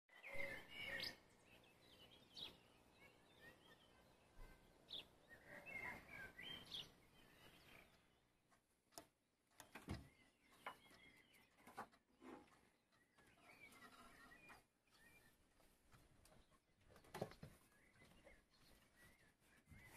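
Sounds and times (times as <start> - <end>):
faint birds chirping: 0.1 - 19.9.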